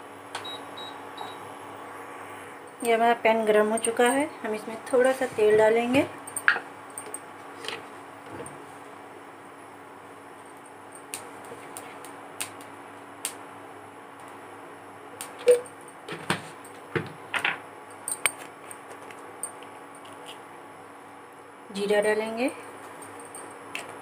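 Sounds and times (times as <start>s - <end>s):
faint cooktop hum: 0.0s - 24.0s.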